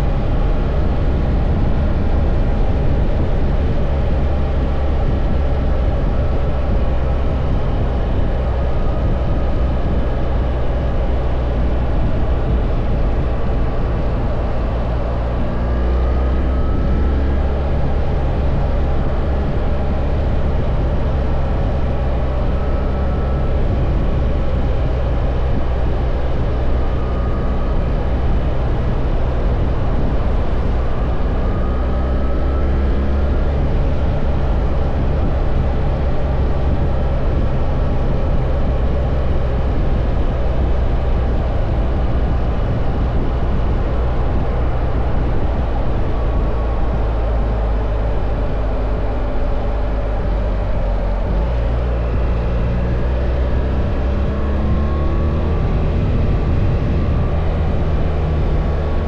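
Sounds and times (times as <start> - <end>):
motorcycle engine running: 0.0 - 59.0
rush of noise: 0.0 - 59.0.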